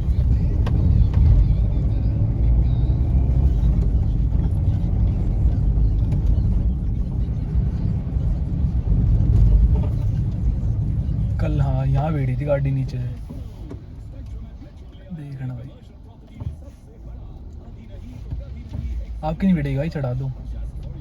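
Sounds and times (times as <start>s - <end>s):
car engine and road noise in cabin: 0.0s - 21.0s.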